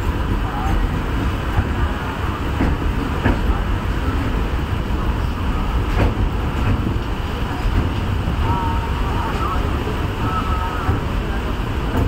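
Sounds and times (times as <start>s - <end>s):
train rumbling on a bridge: 0.0s - 12.0s.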